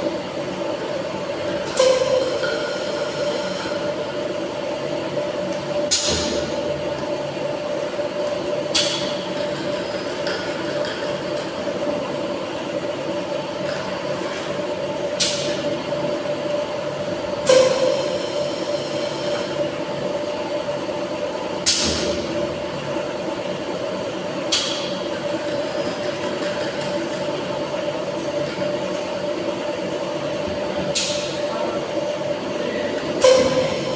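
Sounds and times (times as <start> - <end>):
machine humming: 0.0 - 33.9.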